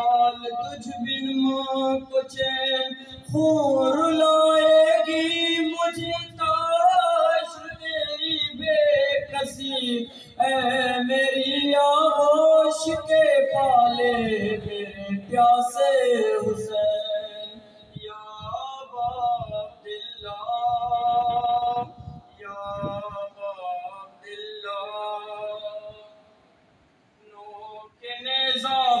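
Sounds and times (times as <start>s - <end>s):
man singing a lament: 0.0s - 26.2s, 27.2s - 29.0s.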